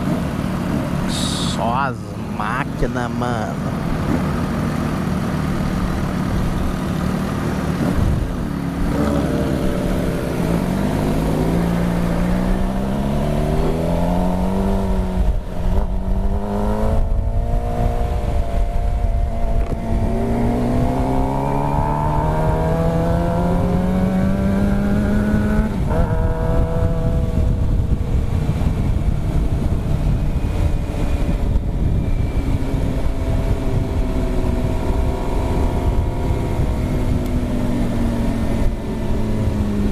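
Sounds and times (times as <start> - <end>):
motorcycle engine accelerating: 0.0 - 39.9
wind rumble on microphone: 7.6 - 39.9.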